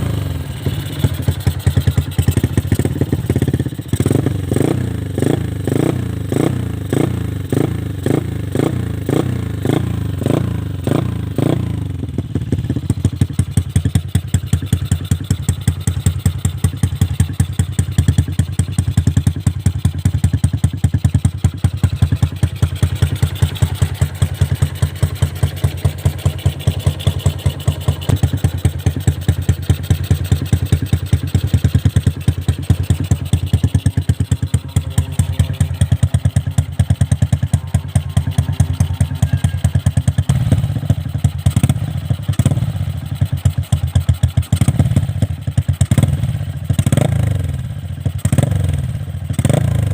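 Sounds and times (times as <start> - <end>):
motorcycle engine idling: 0.0 - 49.9
motorcycle engine revving: 0.0 - 49.9.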